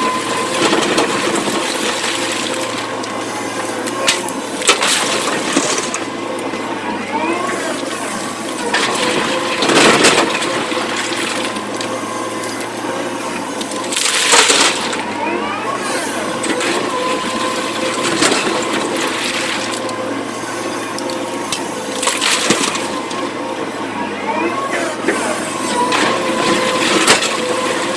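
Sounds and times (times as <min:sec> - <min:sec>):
excavator engine and hydraulic hum: 0:00.0 - 0:27.9.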